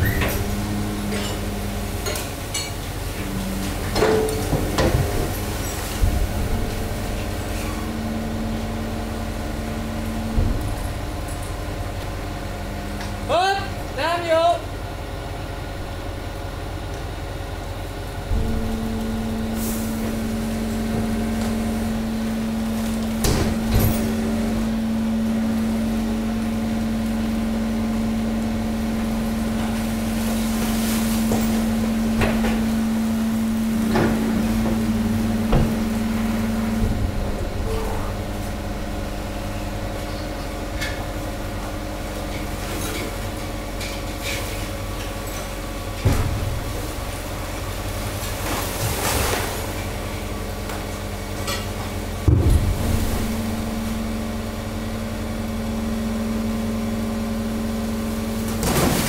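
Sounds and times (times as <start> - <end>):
pitched machine drone: 0.0 - 43.9, 50.2 - 59.0
low machine hum: 0.0 - 59.0.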